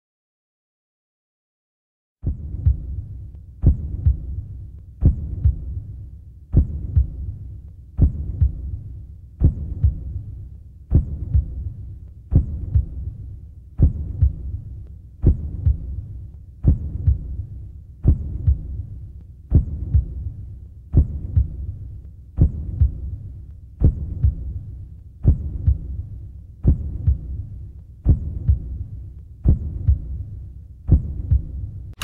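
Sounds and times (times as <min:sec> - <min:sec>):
heavy heartbeat thumps: 0:02.2 - 0:32.0.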